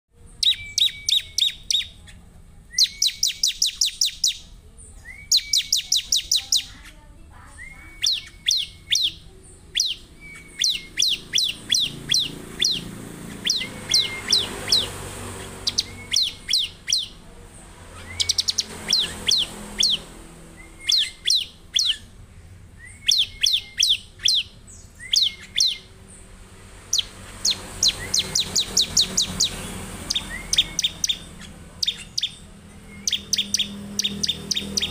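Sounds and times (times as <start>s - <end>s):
bird singing rapid high notes: 0.2s - 34.9s.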